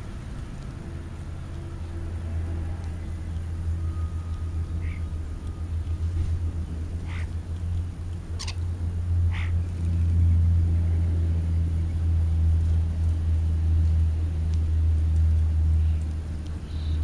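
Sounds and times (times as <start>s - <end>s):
loud steady low rumble: 0.0s - 17.0s.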